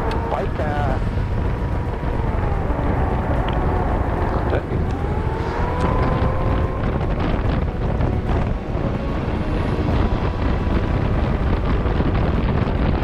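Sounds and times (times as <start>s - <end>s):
motorcycle engine: 0.0s - 13.0s
wind buffeting microphone: 0.0s - 13.0s.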